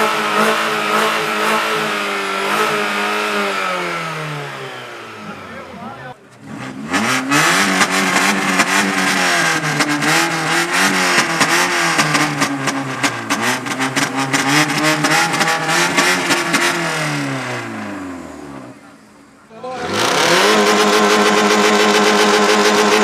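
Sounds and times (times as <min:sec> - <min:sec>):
car engine revving: 0:00.0 - 0:23.0
exhaust crackles: 0:00.0 - 0:23.0.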